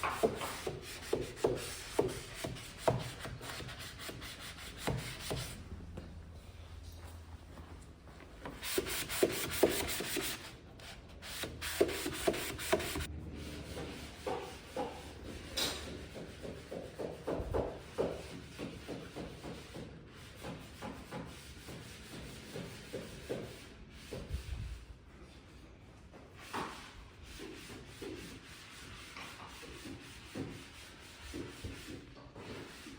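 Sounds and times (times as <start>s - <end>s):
hand sanding wood: 0.0s - 5.6s, 8.6s - 24.5s, 27.2s - 32.9s.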